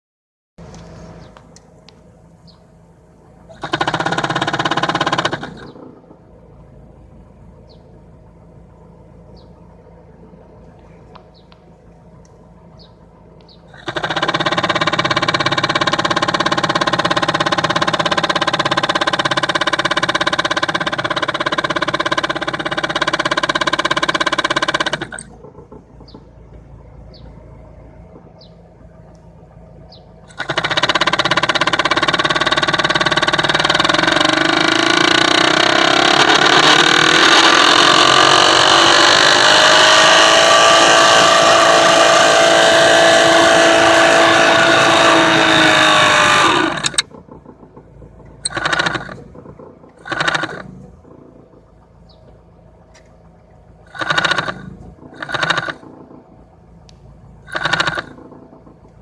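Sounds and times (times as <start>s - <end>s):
car blower fan whining: 0.6s - 59.0s.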